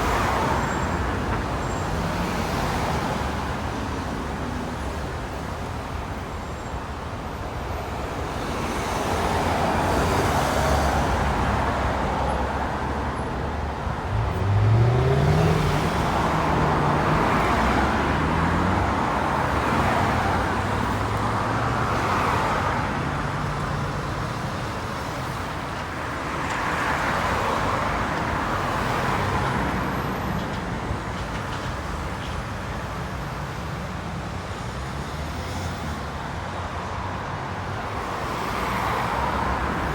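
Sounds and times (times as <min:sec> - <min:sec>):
vehicles passing by: 0:00.0 - 0:39.9.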